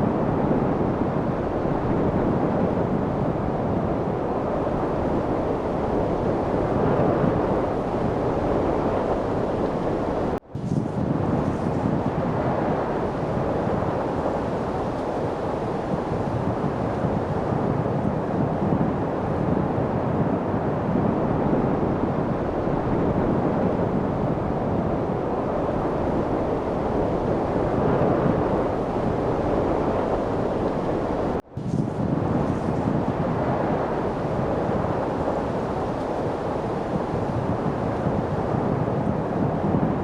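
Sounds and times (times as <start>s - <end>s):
steady wind: 0.0s - 40.0s.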